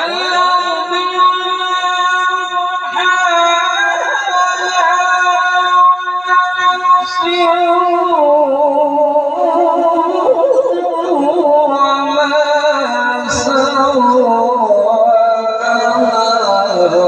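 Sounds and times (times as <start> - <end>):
solo voice reciting melismatically: 0.0 - 17.0.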